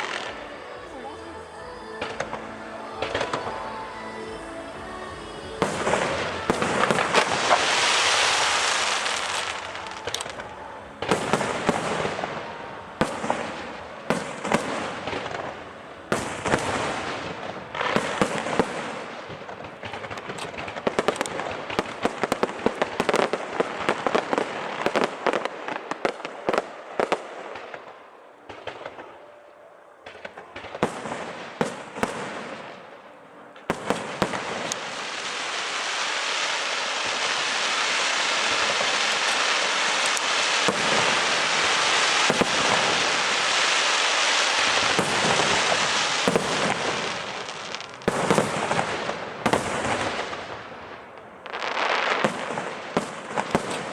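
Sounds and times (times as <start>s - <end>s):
fireworks crackling: 0.0s - 53.9s
firework shells bursting: 2.0s - 25.3s, 33.6s - 53.9s.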